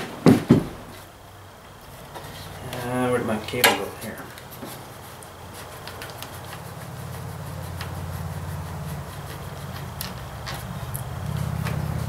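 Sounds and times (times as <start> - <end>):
passing vehicle engine rumble: 1.4 - 12.0.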